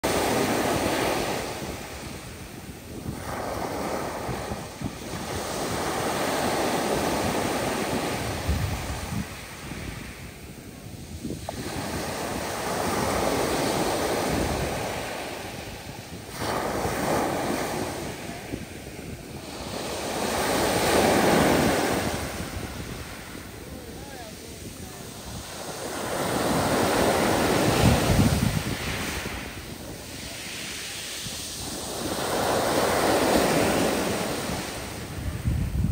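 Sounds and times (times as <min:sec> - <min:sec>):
sea waves breaking: 0:00.0 - 0:35.9
wind buffeting microphone: 0:00.0 - 0:35.9.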